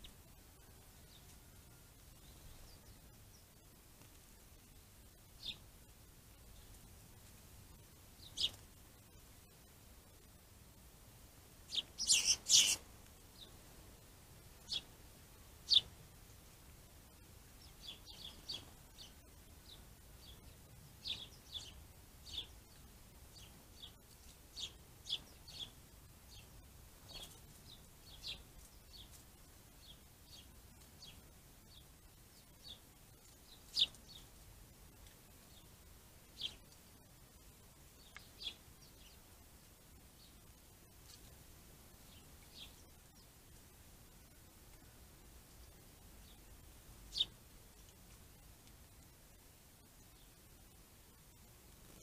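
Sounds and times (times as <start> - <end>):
small birds chirping: 0.0 - 10.3, 11.6 - 16.4, 17.1 - 52.0.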